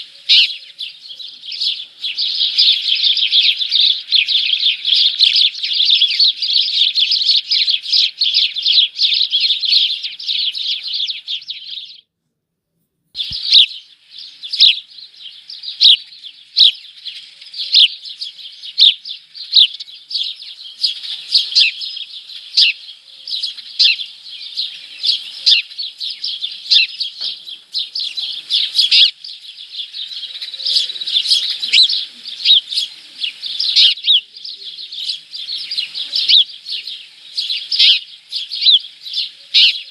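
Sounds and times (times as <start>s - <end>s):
small songbirds chirping: 0.0s - 12.1s, 13.2s - 39.9s.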